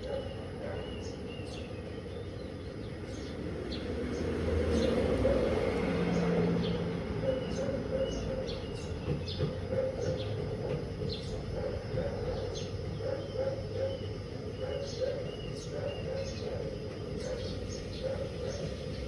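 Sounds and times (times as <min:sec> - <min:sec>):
birds chirping: 0:00.0 - 0:19.0
washing machine rumble and hum: 0:00.0 - 0:19.0.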